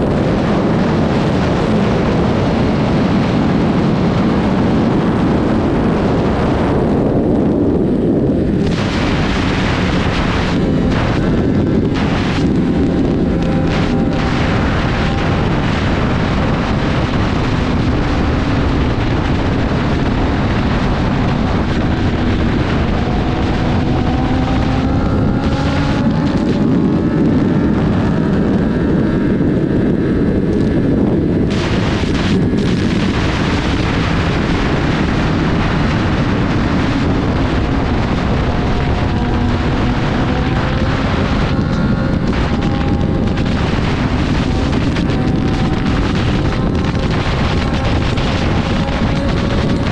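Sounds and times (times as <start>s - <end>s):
motorcycle engine: 0.0s - 49.9s
wind buffeting microphone: 0.0s - 49.9s.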